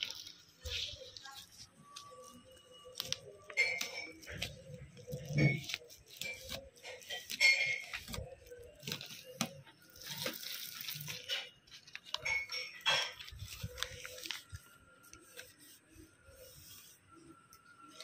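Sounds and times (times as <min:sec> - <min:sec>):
plastic crinkling and rustling: 0:00.0 - 0:18.0.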